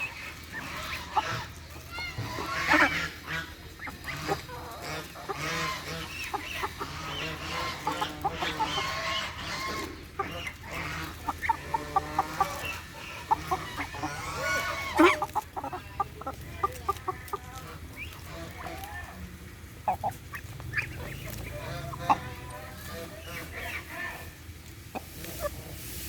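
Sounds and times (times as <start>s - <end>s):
barnyard fowl calling: 0.0s - 26.0s.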